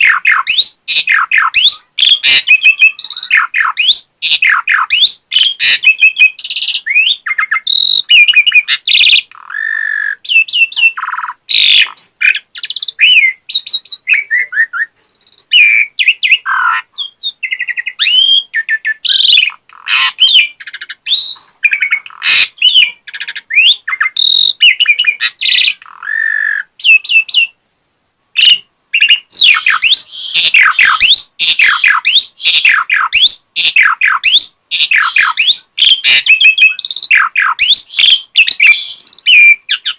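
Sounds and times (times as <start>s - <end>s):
starling singing varied song: 0.0s - 27.6s, 28.4s - 39.9s.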